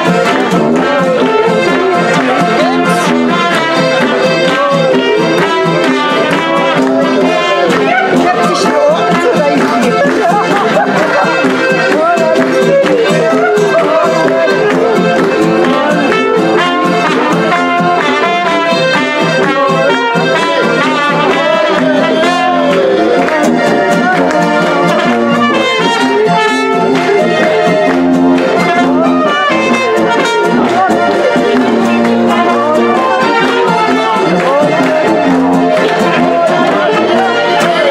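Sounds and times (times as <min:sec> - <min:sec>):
audience clapping along: 0:00.0 - 0:37.9
strummed acoustic guitar: 0:00.0 - 0:37.9
trumpet folk melody: 0:00.0 - 0:37.9.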